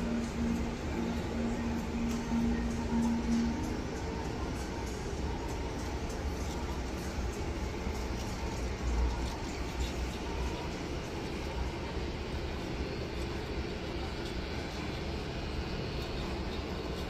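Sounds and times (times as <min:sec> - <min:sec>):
low rumble and hum: 0:00.0 - 0:17.0.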